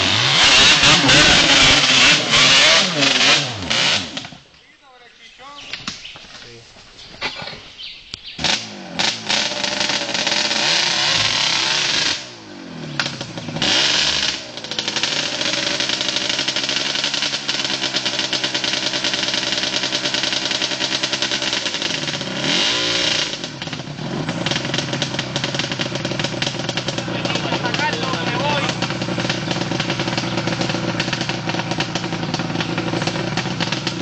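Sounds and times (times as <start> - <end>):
quad engine revving hard: 0.0 - 4.4, 8.4 - 34.0.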